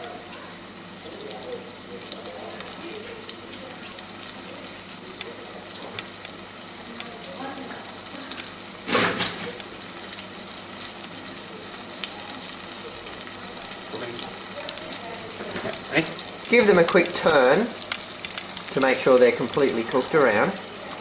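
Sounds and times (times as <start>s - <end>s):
bananas sizzling in hot oil: 0.0s - 21.0s.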